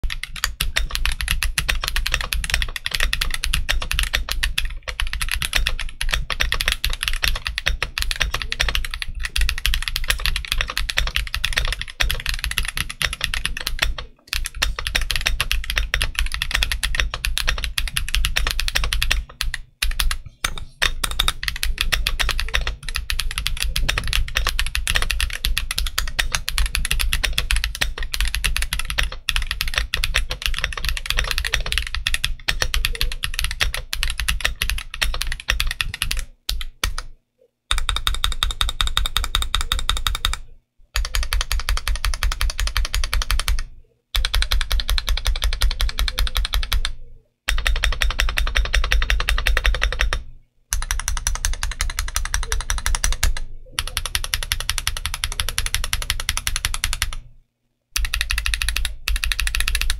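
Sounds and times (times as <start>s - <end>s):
fast typing on mechanical keyboard: 0.0s - 37.1s, 37.7s - 57.3s, 58.0s - 59.9s.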